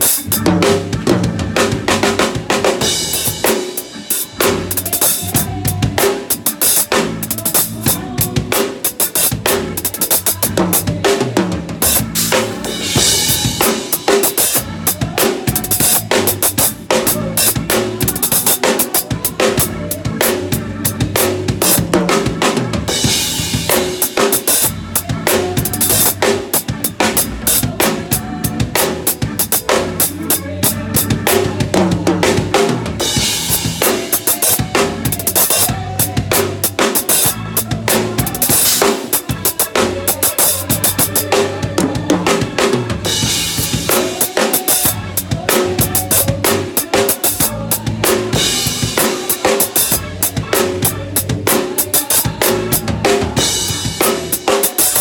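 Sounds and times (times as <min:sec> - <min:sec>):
acoustic drum kit groove: 0:00.0 - 0:55.0
backing music track: 0:00.0 - 0:55.0.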